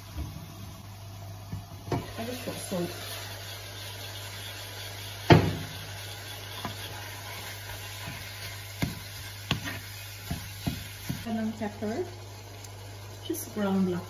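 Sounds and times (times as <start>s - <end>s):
meat sizzling in frying pan: 2.0s - 14.0s.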